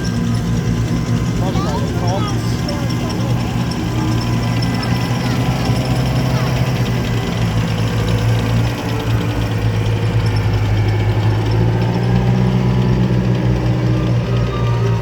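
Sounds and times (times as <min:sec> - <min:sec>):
heavy vehicle engines humming: 0:00.0 - 0:15.0.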